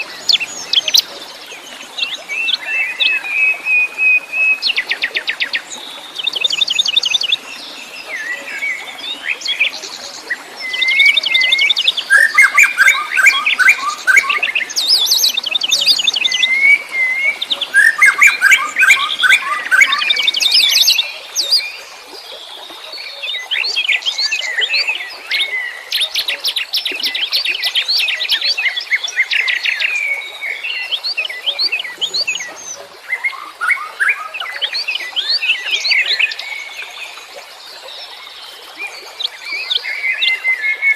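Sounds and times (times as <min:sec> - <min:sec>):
wild birds chirping and singing: 0:00.0 - 0:40.9.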